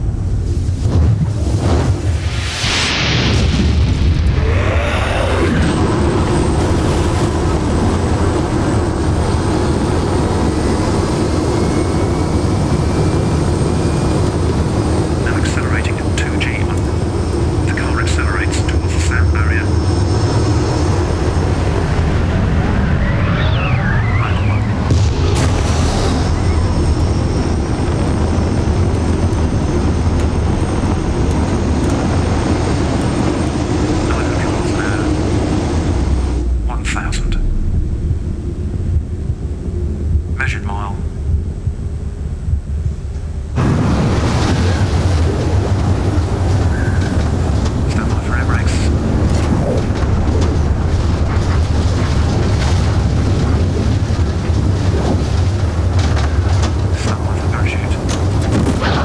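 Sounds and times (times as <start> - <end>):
low engine rumble over loudspeakers: 4.4 - 59.0.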